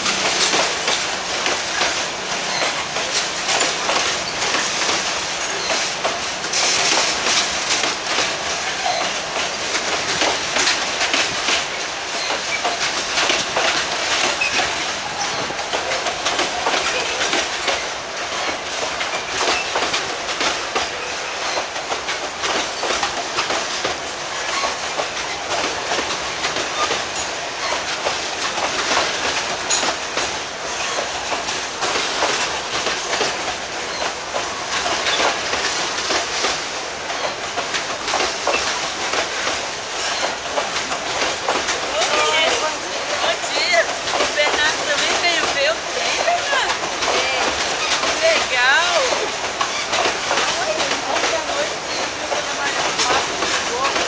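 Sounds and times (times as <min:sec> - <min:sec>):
freight wagon wheels clattering: 0:00.0 - 0:54.0.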